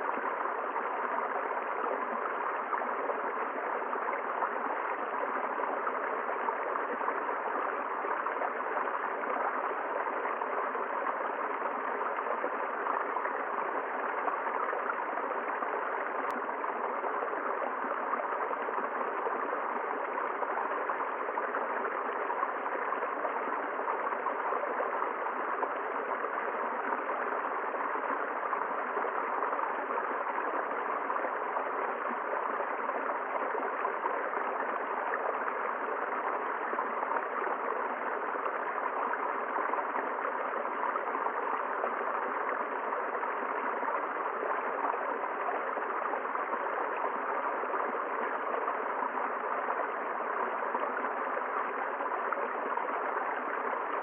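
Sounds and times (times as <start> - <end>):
river flowing over stones: 0.0 - 54.0.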